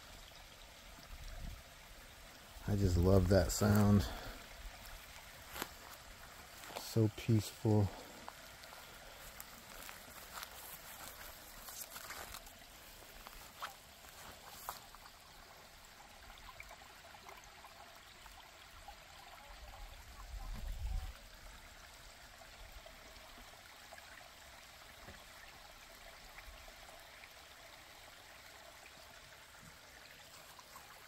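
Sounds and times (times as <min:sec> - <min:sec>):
creek trickling over rocks: 0:00.0 - 0:31.0.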